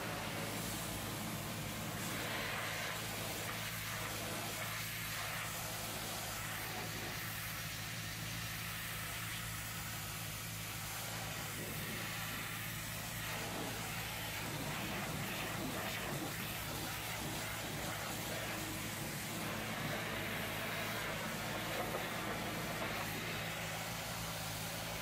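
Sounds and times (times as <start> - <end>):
low pump hum: 0.0 - 25.0
pressure washer jet hissing on metal: 0.0 - 25.0.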